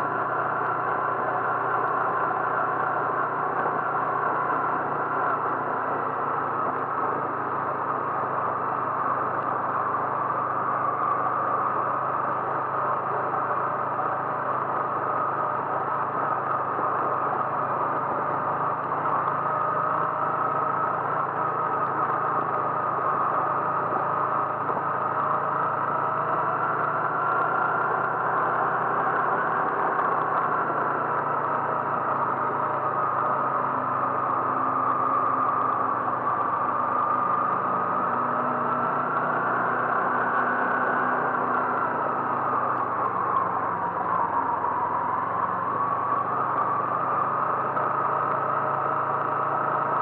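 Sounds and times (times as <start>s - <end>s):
road and wind noise: 0.0s - 50.0s
vehicle engine drone: 0.0s - 50.0s.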